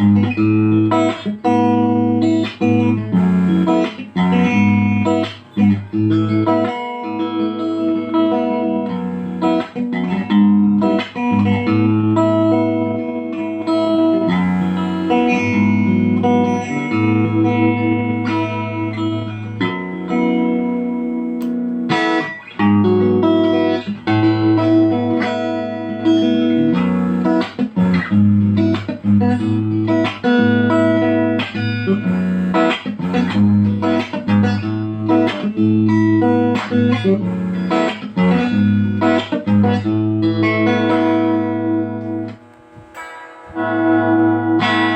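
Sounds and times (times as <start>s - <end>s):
clean electric guitar chords: 0.0s - 44.9s.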